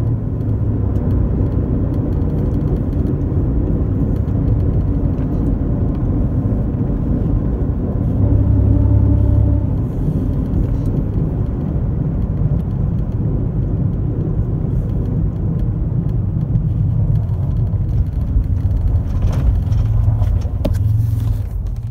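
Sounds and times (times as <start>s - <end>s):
loud exhaust rumble: 0.0s - 21.9s.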